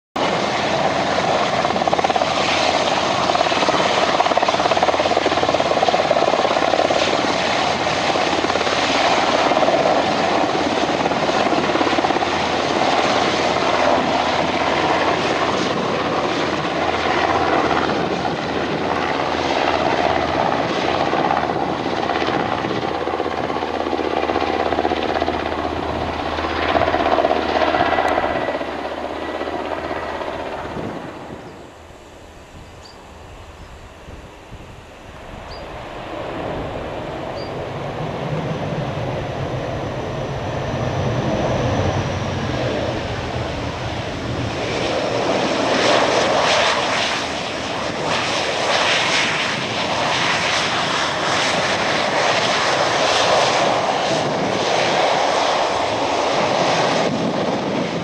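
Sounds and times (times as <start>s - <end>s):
helicopter turbine and rotor: 0.2s - 58.0s.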